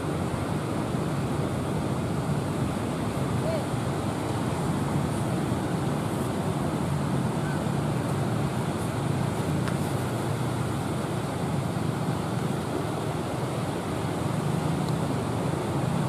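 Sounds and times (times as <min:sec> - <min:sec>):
rough sea surf: 0:00.0 - 0:16.0
wind: 0:00.0 - 0:16.0.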